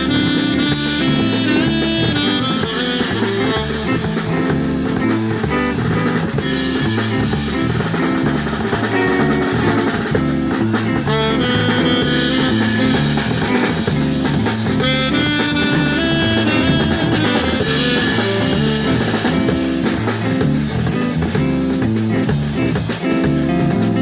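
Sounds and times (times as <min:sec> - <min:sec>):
bass line: 0:00.0 - 0:24.0
drum kit: 0:00.0 - 0:24.0
guitar: 0:00.0 - 0:24.0.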